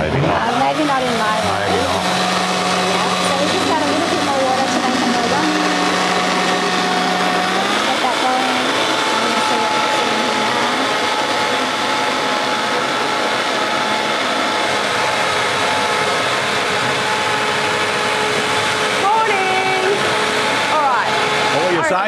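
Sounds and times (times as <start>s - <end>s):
blender motor whine: 0.0s - 22.0s.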